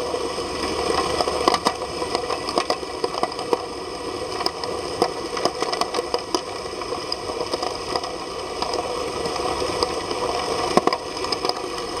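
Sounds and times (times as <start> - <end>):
underwater pump hum: 0.0 - 12.0
sharp clicks and ticks: 0.9 - 12.0.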